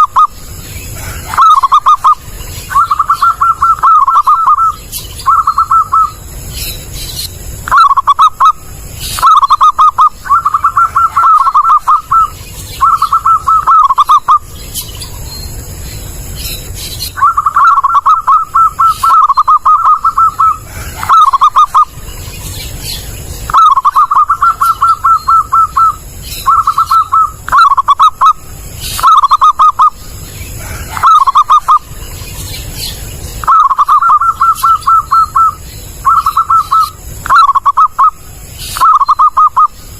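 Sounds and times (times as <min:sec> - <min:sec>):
dove cooing: 0:00.0 - 0:06.3, 0:07.6 - 0:14.5, 0:17.0 - 0:32.0, 0:33.4 - 0:39.7.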